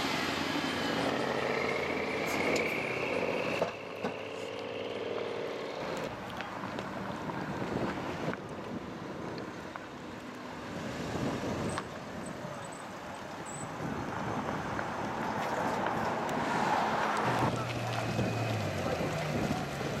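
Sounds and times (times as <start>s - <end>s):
car engine: 0.0s - 20.0s
road noise: 0.0s - 20.0s.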